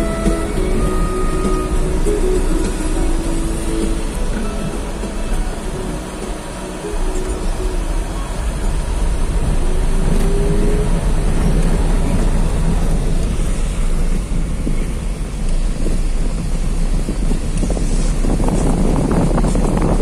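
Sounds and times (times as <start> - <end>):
car rumbling over cobblestones: 0.0 - 20.0.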